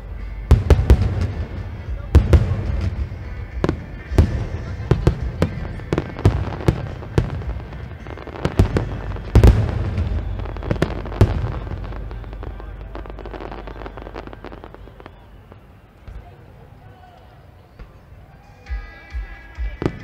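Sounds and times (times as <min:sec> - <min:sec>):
fireworks booming: 0:00.0 - 0:16.7
fireworks crackling: 0:00.0 - 0:20.0.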